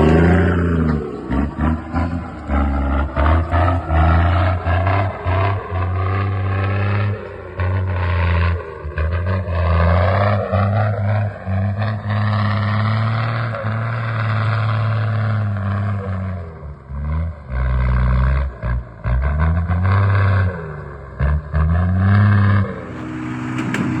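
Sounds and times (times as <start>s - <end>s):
heavy truck engine under load: 0.0s - 24.0s.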